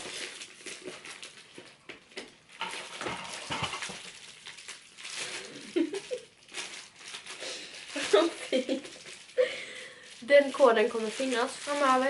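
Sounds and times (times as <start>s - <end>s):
cardboard box and paper rustling: 0.0s - 1.6s, 2.6s - 9.4s, 10.2s - 12.0s.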